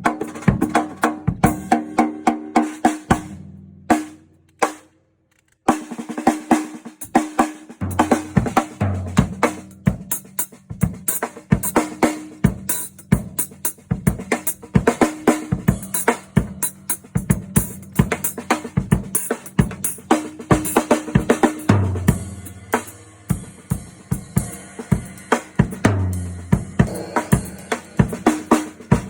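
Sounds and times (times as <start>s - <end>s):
drum kit playing: 0.0s - 4.8s, 5.7s - 29.0s.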